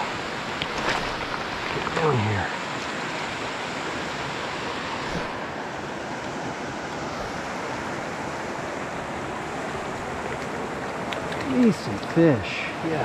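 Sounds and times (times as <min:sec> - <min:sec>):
river running over rocks: 0:00.0 - 0:13.0.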